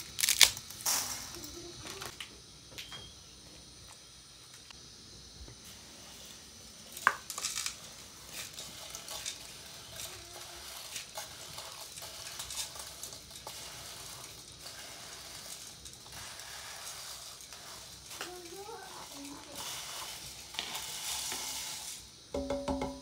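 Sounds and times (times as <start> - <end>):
dry spaghetti crackling against metal: 0.0 - 2.2, 5.6 - 22.2
steady hiss: 0.0 - 23.0.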